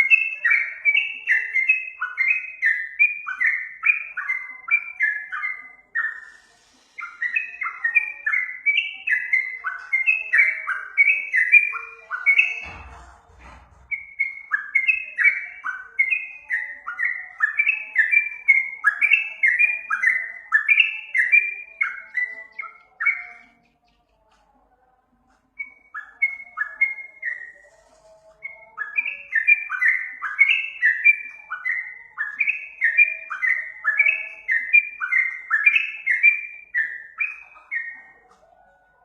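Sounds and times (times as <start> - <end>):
bird whistling song: 0.0 - 24.4, 25.5 - 38.9.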